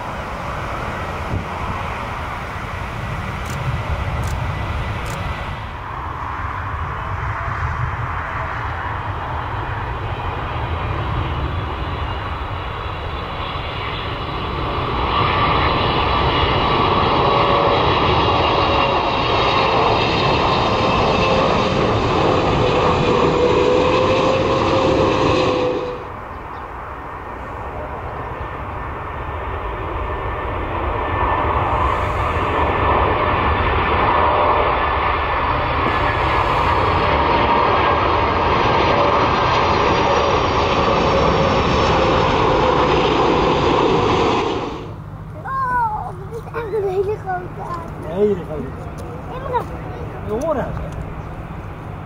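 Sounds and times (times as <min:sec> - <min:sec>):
distant jet aircraft rumble: 0:00.0 - 0:52.0
jet engine rumble and whine: 0:00.0 - 0:52.0.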